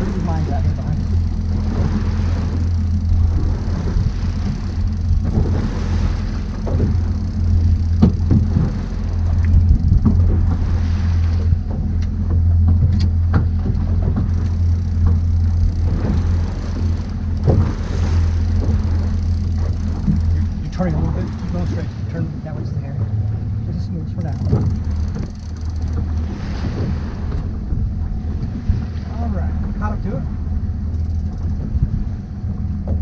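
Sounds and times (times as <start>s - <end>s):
boat engine droning: 0.0s - 33.0s
water rushing: 0.0s - 33.0s
wind: 0.0s - 33.0s.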